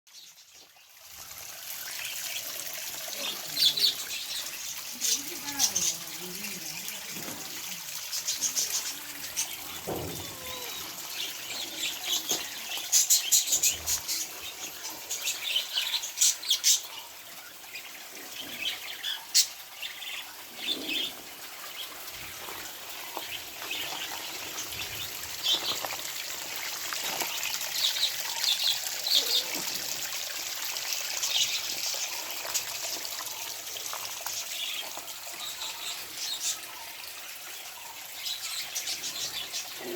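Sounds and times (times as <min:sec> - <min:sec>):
small birds chirping: 0:00.1 - 0:39.9
small waterfall splashing: 0:00.1 - 0:39.9.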